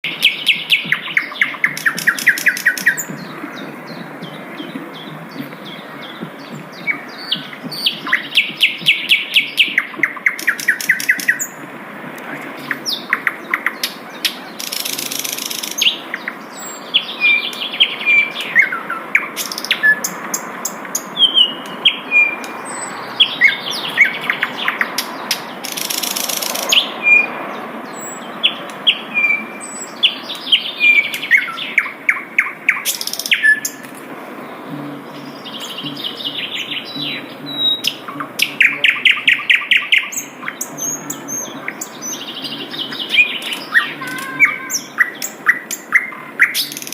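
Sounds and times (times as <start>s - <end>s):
flycatcher singing trills: 0.0s - 11.6s, 12.6s - 46.9s.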